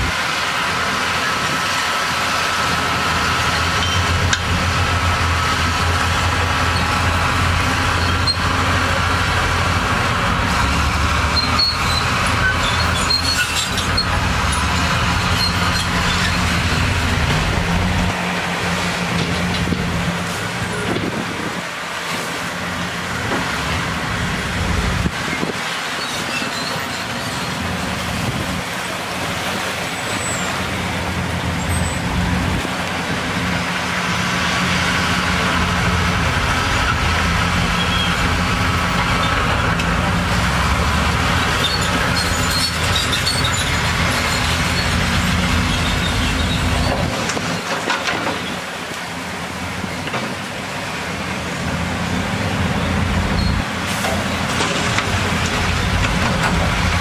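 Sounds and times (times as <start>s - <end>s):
heavy diesel machinery engines: 0.0s - 57.0s.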